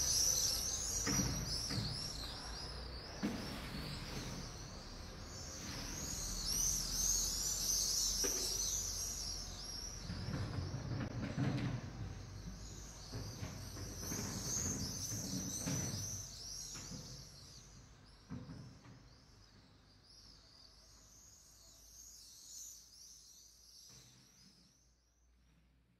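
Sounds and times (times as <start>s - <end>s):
small birds chirping: 0.0s - 25.1s.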